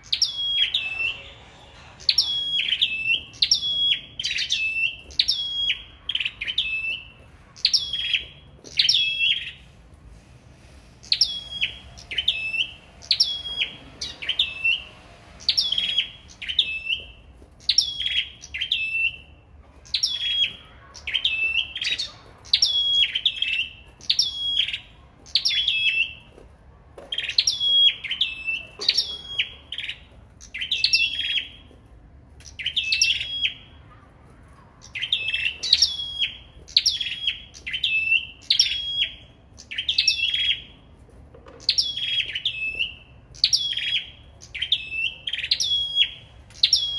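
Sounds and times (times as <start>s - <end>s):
caged songbirds singing: 0.0s - 46.9s.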